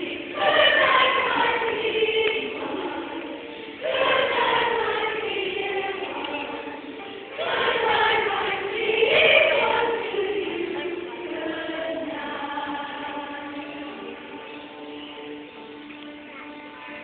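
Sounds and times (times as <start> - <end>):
choir singing: 0.0 - 15.4.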